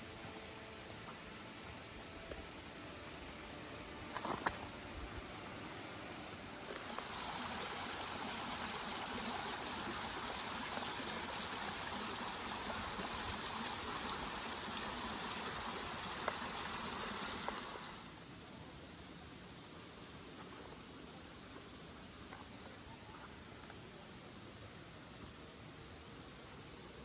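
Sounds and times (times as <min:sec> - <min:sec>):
rushing stream water: 0:00.0 - 0:26.9.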